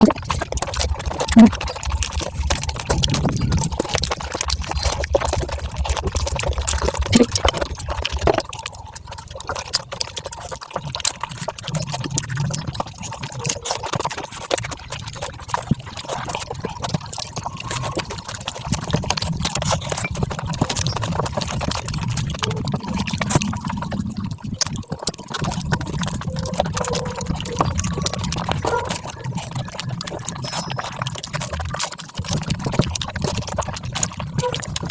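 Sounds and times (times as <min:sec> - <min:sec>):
fast chewing and wet mouth clicks: 0:00.0 - 0:34.9.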